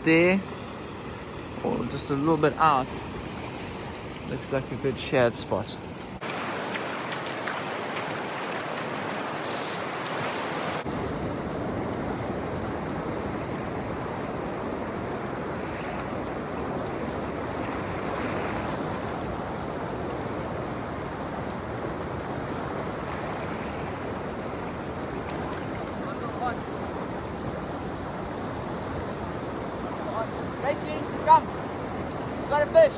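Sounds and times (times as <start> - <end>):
ocean surf breaking: 0.0 - 32.9.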